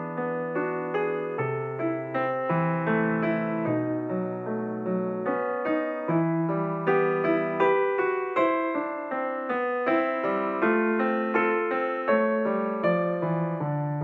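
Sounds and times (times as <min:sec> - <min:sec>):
slow gentle piano melody: 0:00.0 - 0:14.0.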